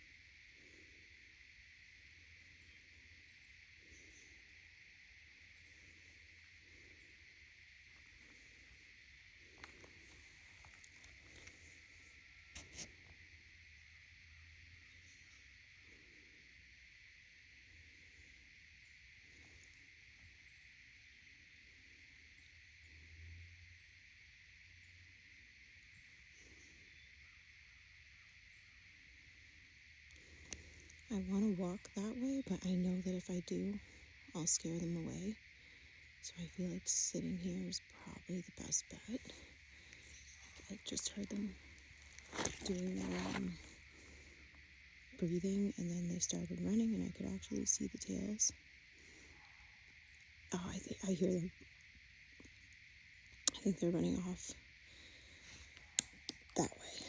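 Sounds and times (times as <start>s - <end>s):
faint insect hum: 0.0s - 57.0s.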